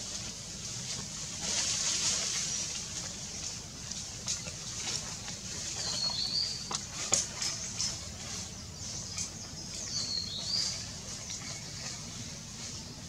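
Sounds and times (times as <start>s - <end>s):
clicks and rustles in branches: 0.0s - 13.0s.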